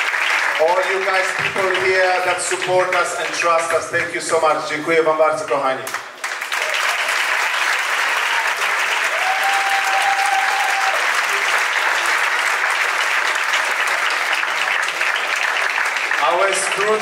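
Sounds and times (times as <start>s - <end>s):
audience applauding: 0.0s - 3.9s, 5.5s - 17.0s.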